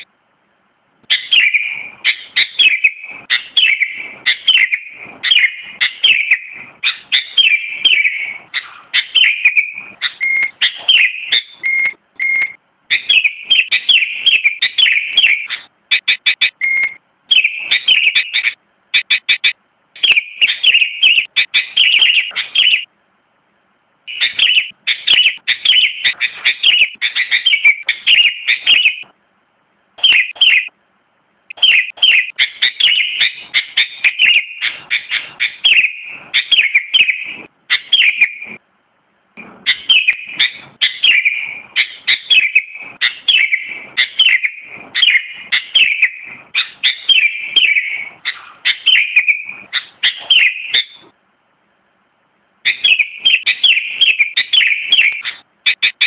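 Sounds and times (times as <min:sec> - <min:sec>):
bird chirping song: 0:01.0 - 0:22.9, 0:24.1 - 0:29.1, 0:29.9 - 0:30.8, 0:31.5 - 0:38.6, 0:39.4 - 0:51.2, 0:52.6 - 0:56.0.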